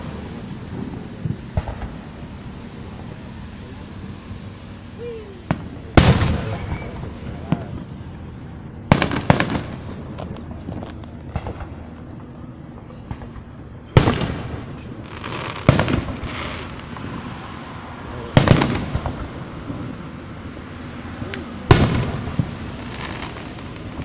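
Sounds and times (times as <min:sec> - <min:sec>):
echoing crackle: 0:00.0 - 0:24.0
fireworks booming: 0:00.0 - 0:24.0.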